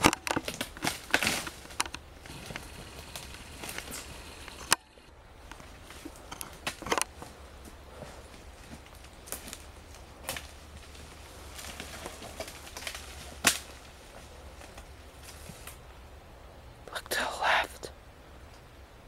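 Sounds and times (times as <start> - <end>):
twigs snapping underfoot: 0.0 - 15.8.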